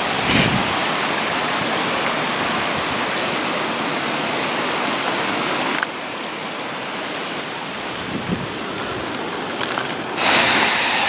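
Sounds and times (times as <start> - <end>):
floodwater rushing through channel: 0.0 - 11.0.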